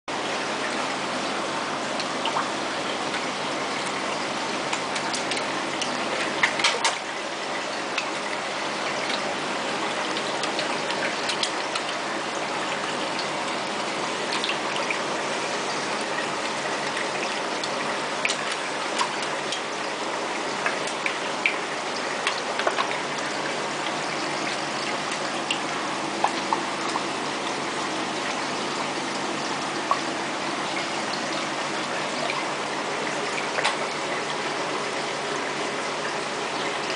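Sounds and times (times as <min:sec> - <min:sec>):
running water in fish tank: 0:00.1 - 0:36.9
small splashes and drips: 0:00.3 - 0:36.9.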